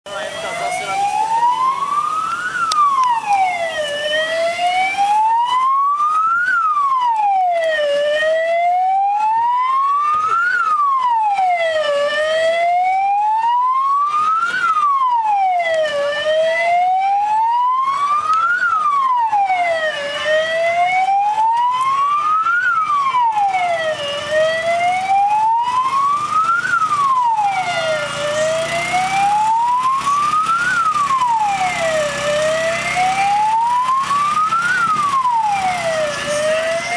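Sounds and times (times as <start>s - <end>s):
fire engine siren wailing: 0.0s - 36.9s.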